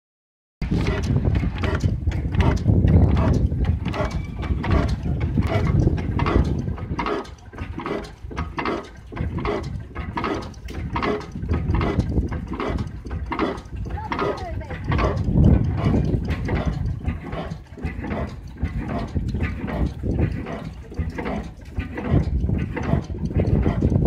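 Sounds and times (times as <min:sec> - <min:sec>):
heavy low rumble: 0:00.6 - 0:24.0
oil engine knocking: 0:00.6 - 0:24.0.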